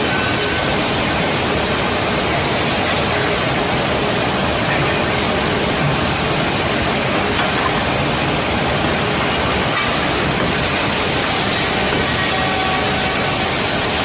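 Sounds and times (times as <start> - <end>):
woodworking machine running: 0.0 - 14.0.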